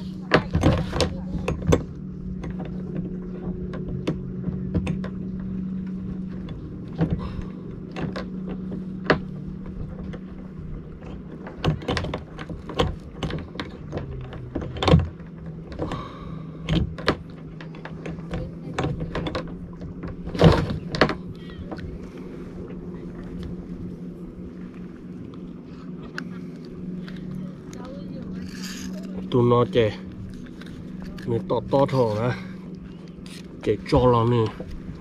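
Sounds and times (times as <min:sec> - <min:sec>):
knocks clicks and thuds in kayak: 0:00.0 - 0:24.0, 0:24.7 - 0:35.0
steady low hum: 0:00.0 - 0:35.0.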